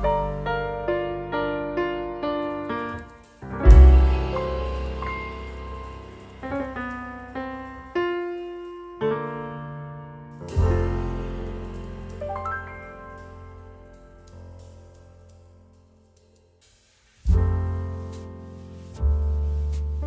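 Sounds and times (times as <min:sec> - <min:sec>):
slow solo piano music: 0:00.0 - 0:15.8, 0:17.3 - 0:20.0.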